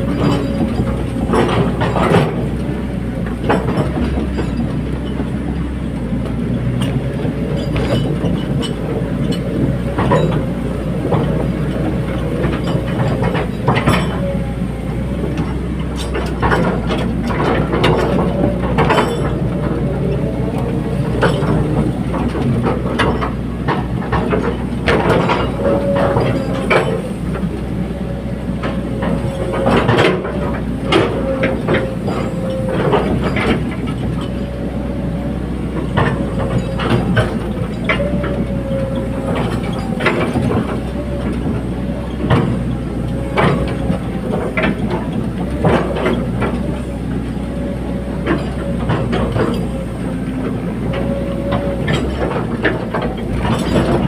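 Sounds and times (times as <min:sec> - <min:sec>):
metallic clanks and clicks: 0:00.0 - 0:14.4, 0:15.3 - 0:28.0, 0:28.6 - 0:34.6, 0:35.7 - 0:54.0
excavator engine running: 0:00.0 - 0:54.0.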